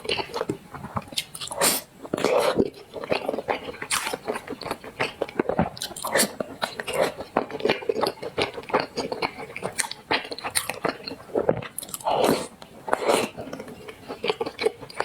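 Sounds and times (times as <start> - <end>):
person chewing with crunching: 0.0 - 15.0.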